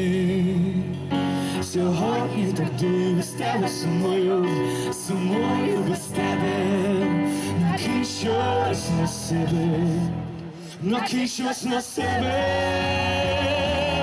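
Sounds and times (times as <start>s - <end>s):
digital piano: 0.0s - 14.0s
man singing with vibrato: 0.0s - 14.0s.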